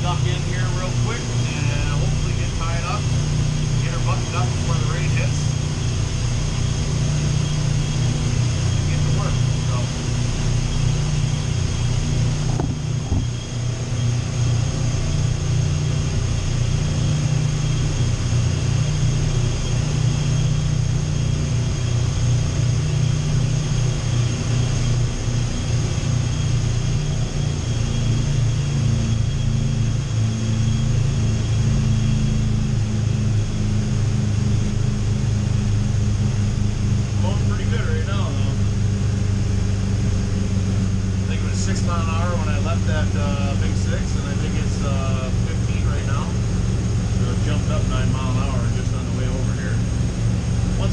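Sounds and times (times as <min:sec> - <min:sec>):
boat engines droning: 0:00.0 - 0:50.9.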